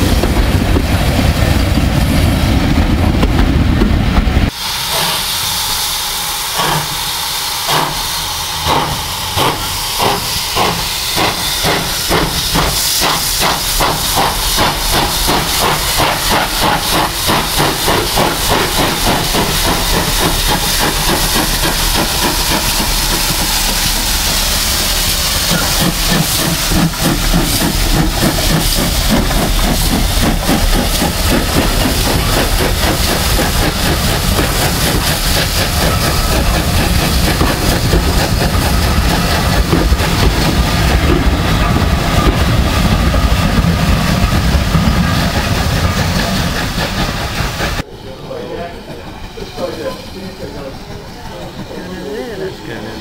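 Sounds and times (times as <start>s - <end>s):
train wheels on rails: 0.0s - 53.0s
loud steam hiss: 4.4s - 53.0s.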